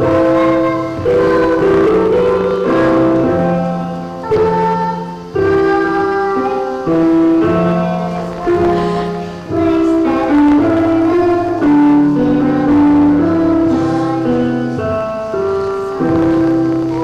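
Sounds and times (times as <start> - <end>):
keyboard playing sustained chords: 0.0 - 17.0.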